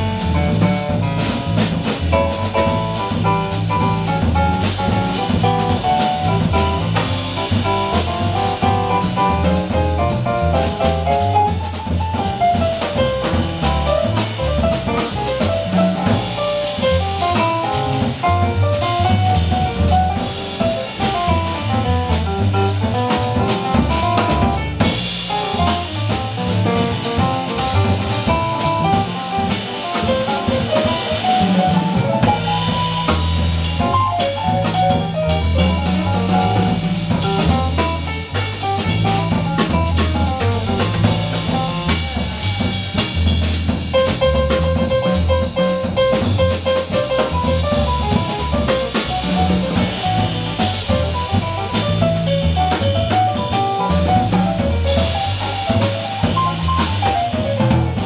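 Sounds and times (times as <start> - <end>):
drums and cymbals: 0.0 - 58.0
jazz piano: 0.0 - 58.0
upright bass line: 0.0 - 58.0.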